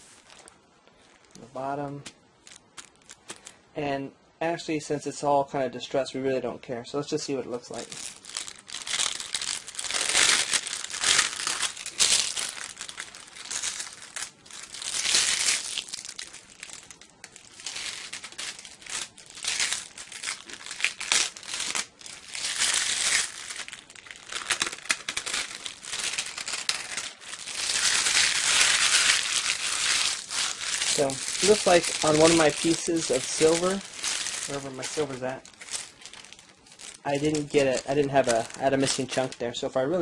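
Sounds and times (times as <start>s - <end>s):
plastic sheets crinkling: 0.0s - 3.6s, 7.0s - 40.0s.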